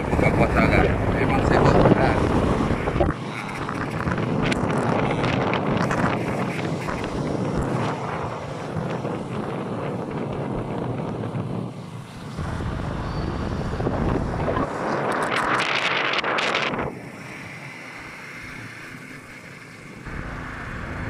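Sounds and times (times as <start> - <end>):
motorcycle engine and road noise: 0.0 - 21.0
wind rushing over microphone: 0.0 - 21.0.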